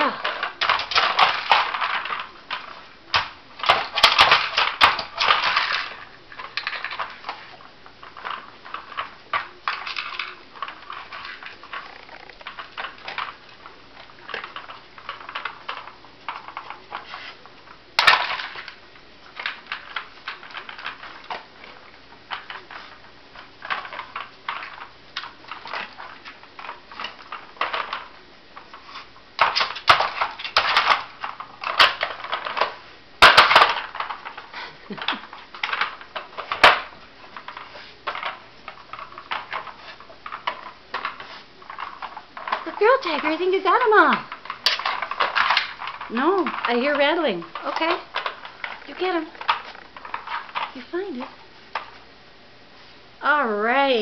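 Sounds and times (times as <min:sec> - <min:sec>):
plastic puzzle layers clacking: 0:00.0 - 0:52.0
kibble rattling: 0:00.0 - 0:52.1.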